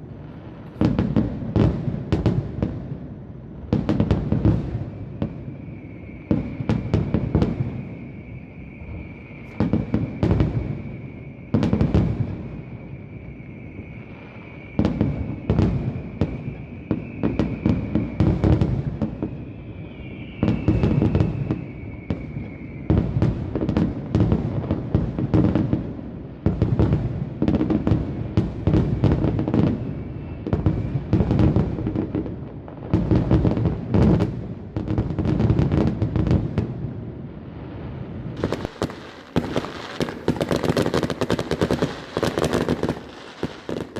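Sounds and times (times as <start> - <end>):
high steady whistle: 0.0 - 26.6, 27.6 - 32.3, 37.8 - 43.9
fireworks bursting: 0.0 - 43.9.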